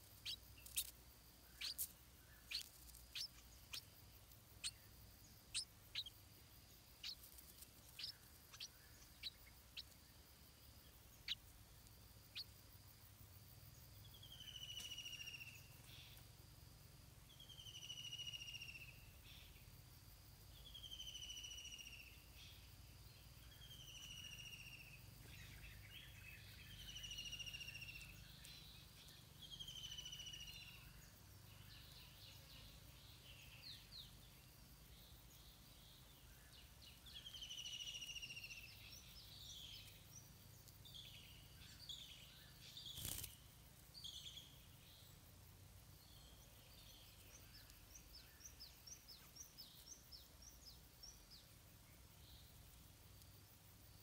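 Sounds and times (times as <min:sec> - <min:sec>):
birds twittering and chirping: 0:00.0 - 0:54.0.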